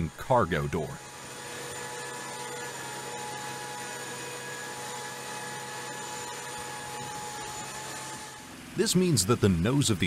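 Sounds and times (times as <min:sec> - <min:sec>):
jet turbine running: 0:00.0 - 0:10.0.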